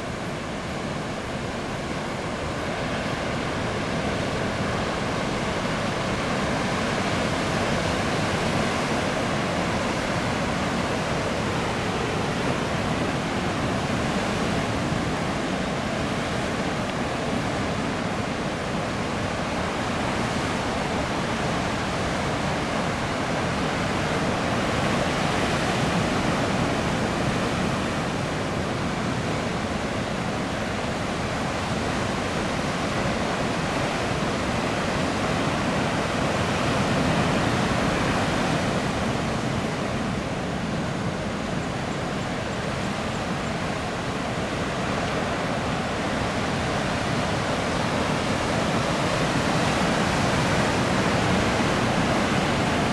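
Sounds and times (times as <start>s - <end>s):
surf roaring on shore: 0.0s - 52.9s.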